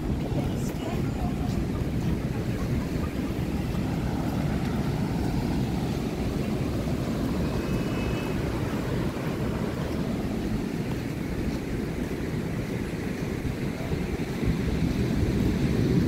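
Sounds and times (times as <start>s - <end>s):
ocean surf: 0.0s - 16.0s
wind on microphone: 0.0s - 16.0s.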